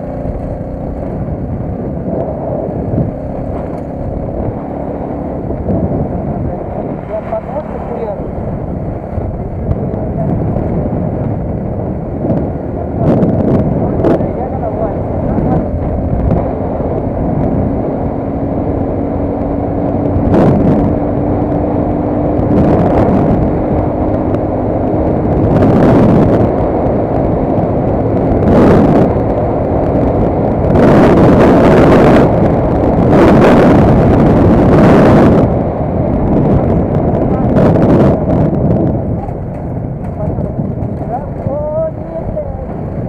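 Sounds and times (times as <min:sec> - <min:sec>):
vehicle road noise rumbling: 0:00.0 - 0:43.0.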